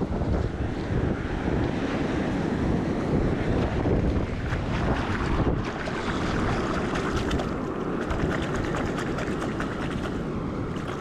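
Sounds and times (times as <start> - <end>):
surf washing on shore: 0.0 - 11.0
wind buffeting microphone: 0.0 - 11.0.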